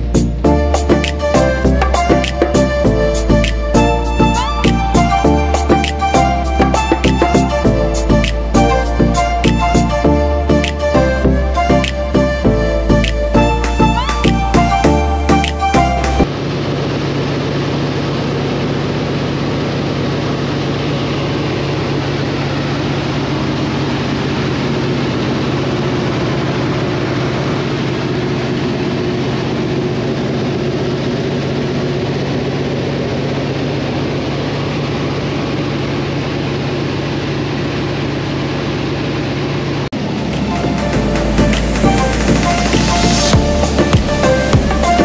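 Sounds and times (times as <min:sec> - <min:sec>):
floatplane engine and propeller roar: 0:00.0 - 0:45.0.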